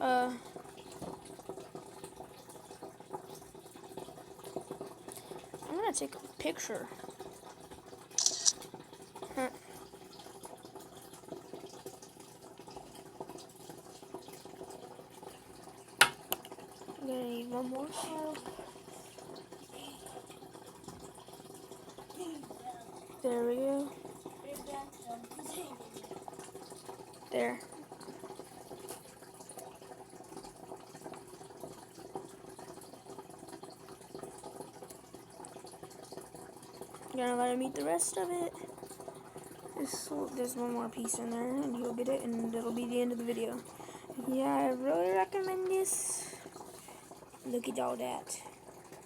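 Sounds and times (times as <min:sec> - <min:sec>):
water trickling and dripping: 0:00.0 - 0:49.0.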